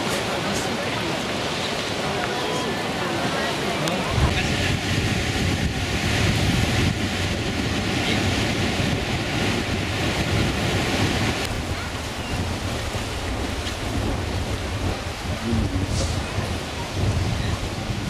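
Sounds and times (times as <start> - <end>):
surf breaking on rocks: 0.0 - 18.0
wind on microphone: 2.8 - 18.0.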